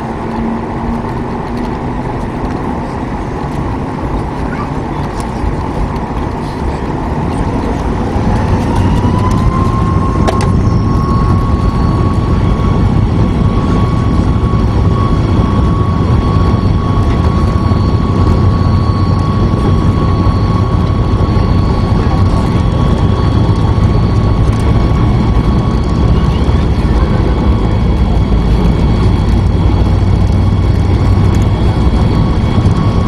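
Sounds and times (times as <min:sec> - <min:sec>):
jet engine whine: 0:00.0 - 0:33.0
loud cabin rumble: 0:00.0 - 0:33.0.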